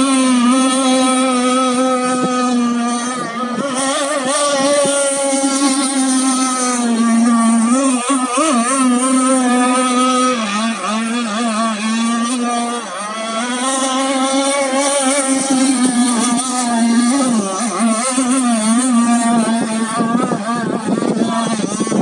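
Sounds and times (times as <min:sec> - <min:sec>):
model boat engines high revs: 0:00.0 - 0:22.0.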